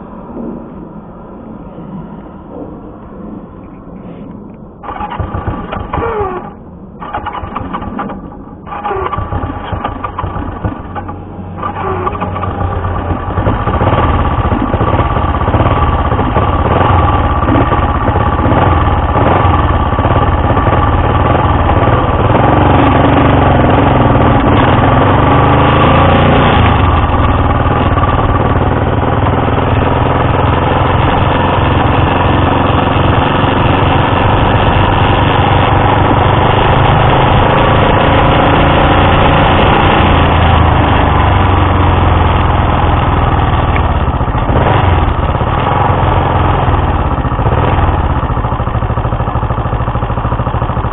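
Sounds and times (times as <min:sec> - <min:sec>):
motorcycle engine starting: 0:04.4 - 0:50.9.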